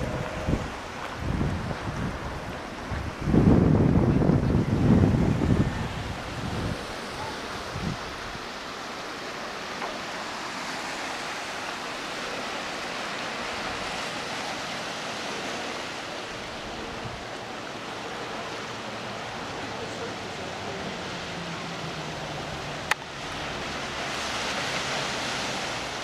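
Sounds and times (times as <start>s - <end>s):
distant surf on rocks: 0.0s - 26.0s
light wind: 0.0s - 26.0s.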